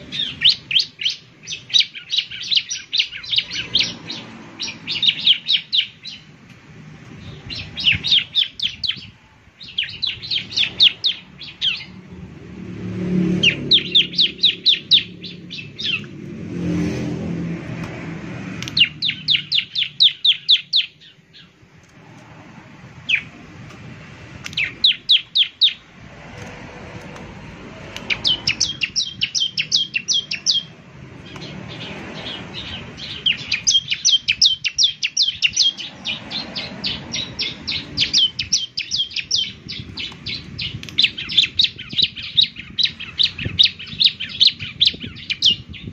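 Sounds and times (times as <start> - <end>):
bird singing rapid high chirps: 0.0 - 12.5, 13.2 - 16.2, 18.5 - 21.7, 23.0 - 23.4, 24.4 - 26.0, 27.4 - 45.9.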